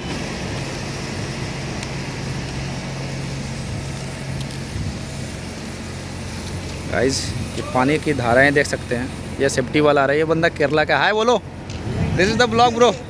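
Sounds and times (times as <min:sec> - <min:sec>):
machinery engine hum: 0:00.0 - 0:13.0
open-air rushing noise: 0:00.0 - 0:13.0.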